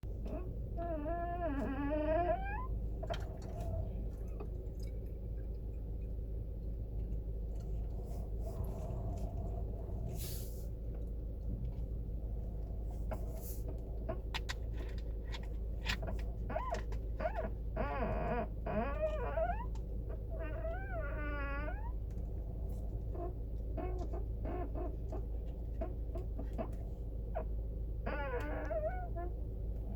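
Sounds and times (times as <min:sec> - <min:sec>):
steady low hum: 0:00.0 - 0:29.9
steering wheel creaking: 0:00.1 - 0:06.2, 0:07.1 - 0:29.9.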